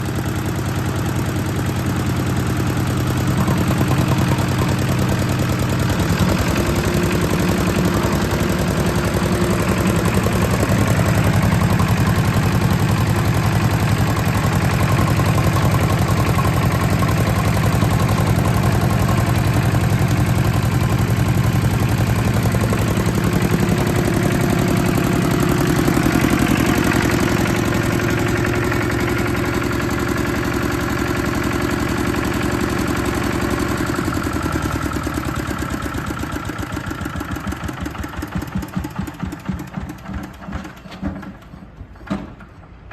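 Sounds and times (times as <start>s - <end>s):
tiller diesel engine running: 0.0s - 42.9s.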